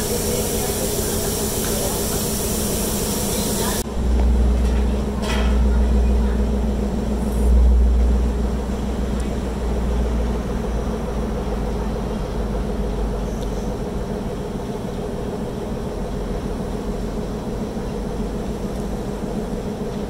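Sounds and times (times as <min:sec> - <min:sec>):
locomotive idling: 0:00.0 - 0:20.0.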